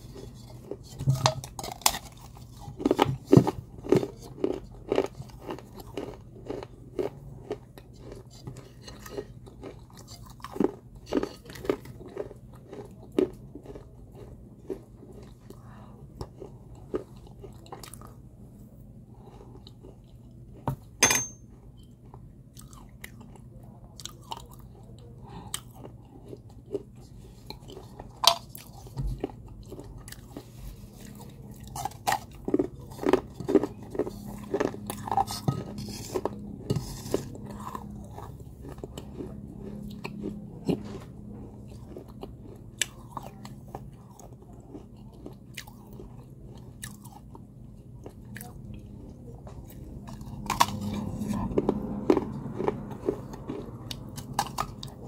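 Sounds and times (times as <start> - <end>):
chewing pottery crunches: 0.0 - 55.0.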